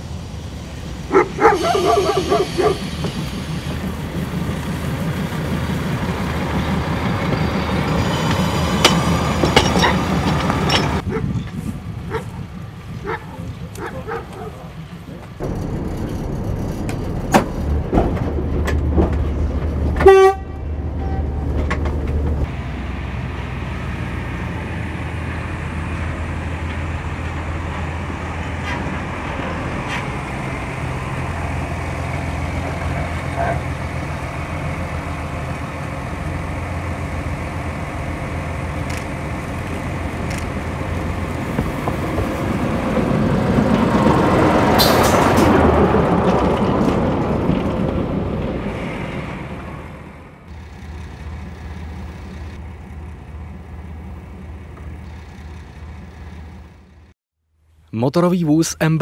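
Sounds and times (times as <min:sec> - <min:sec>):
diesel engine droning: 0:00.0 - 0:57.1.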